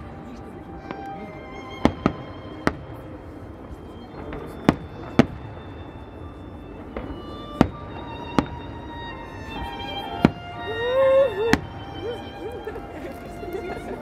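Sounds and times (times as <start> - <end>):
faint music: 0.0 - 14.0.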